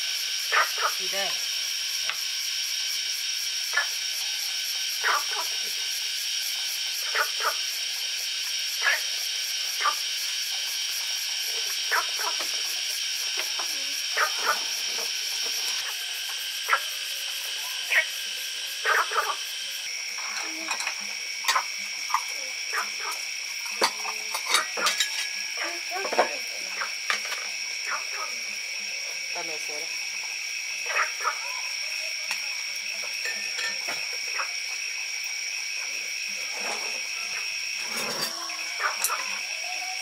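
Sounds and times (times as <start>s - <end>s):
insects calling: 0.0s - 40.0s.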